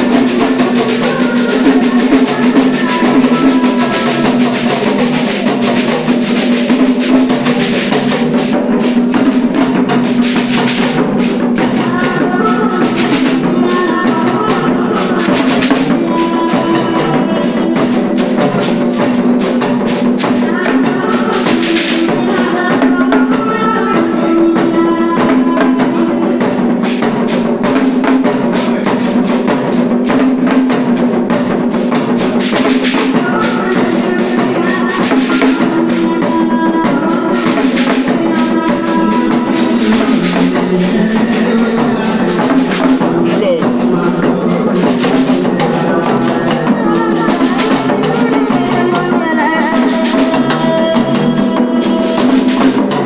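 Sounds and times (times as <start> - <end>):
loud music with drums: 0.0 - 53.0.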